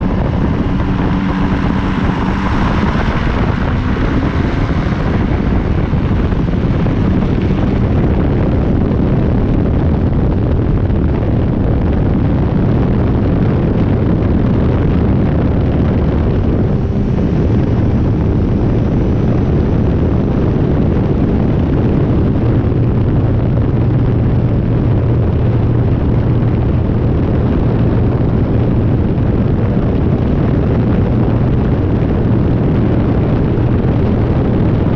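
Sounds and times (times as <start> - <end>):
rush of wind noise: 0.0 - 34.9
ultralight engine running: 0.0 - 34.9.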